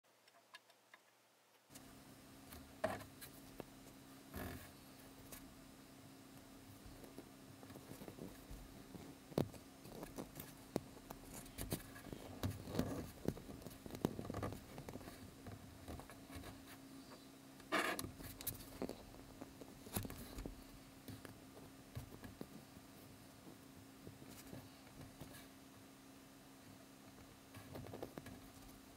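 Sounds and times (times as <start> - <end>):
faint steady low hum: 0.1 - 28.9.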